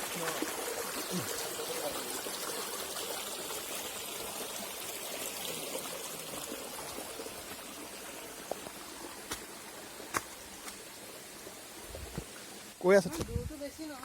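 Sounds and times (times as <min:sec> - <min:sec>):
stream trickling: 0:00.0 - 0:14.0.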